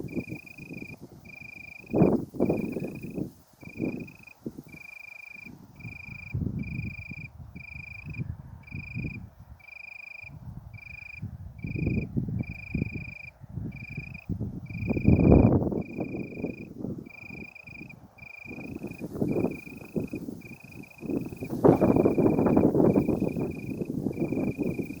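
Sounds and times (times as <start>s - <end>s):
wind buffeting microphone: 0.0s - 4.8s, 5.4s - 9.6s, 10.2s - 25.0s.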